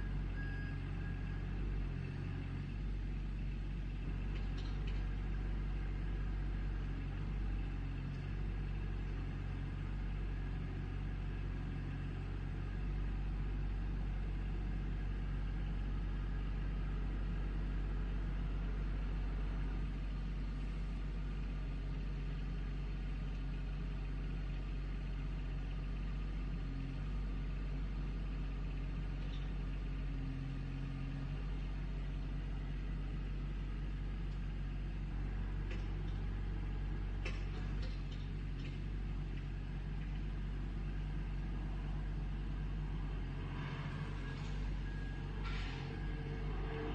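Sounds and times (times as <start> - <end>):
backhoe engine rumbling: 0.0 - 46.9.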